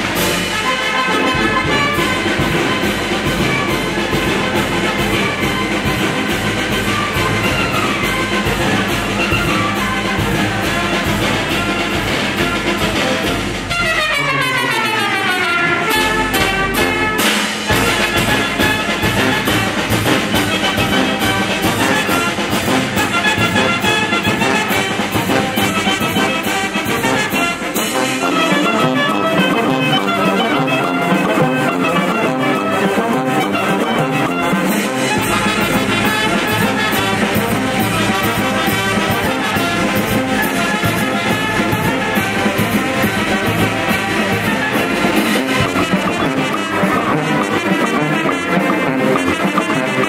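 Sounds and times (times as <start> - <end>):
wind band playing: 0.0 - 50.0.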